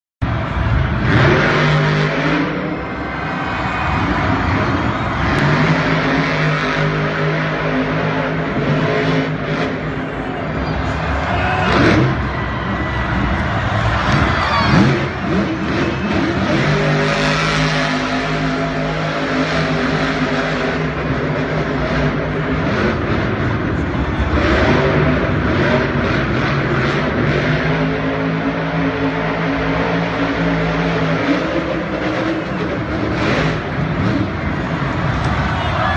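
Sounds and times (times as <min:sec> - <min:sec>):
monster truck engine running: 0:00.2 - 0:35.9.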